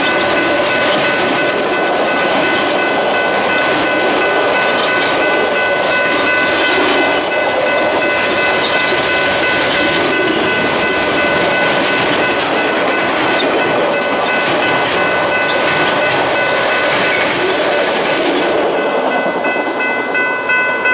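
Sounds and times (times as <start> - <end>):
steady high-pitched tones: 0.0 - 20.9
train wheels on rail: 0.0 - 20.9.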